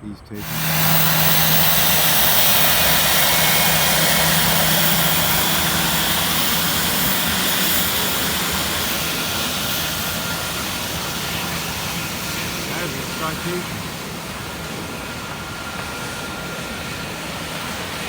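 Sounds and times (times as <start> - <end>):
jet engines roaring: 0.2 - 18.0.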